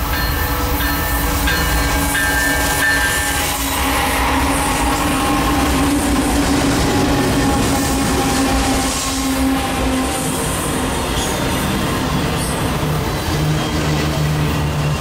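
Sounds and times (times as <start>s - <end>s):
diesel locomotive engines rumbling: 0.0s - 15.0s
wheels rolling on rail: 0.0s - 15.0s.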